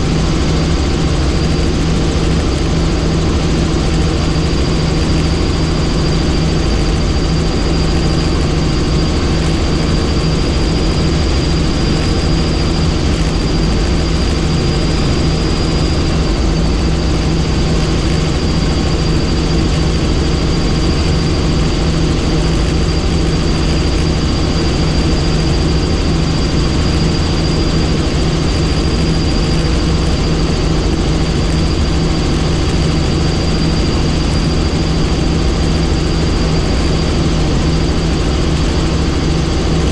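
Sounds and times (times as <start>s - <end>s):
helicopter engine and rotor drone: 0.0s - 39.9s
high turbine whine: 0.0s - 39.9s.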